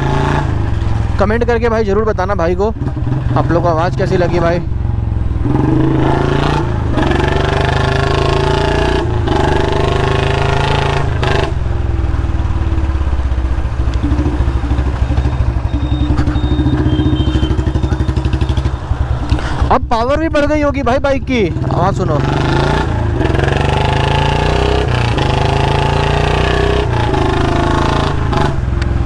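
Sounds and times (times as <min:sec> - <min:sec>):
motorcycle engine thumping: 0:00.0 - 0:29.0.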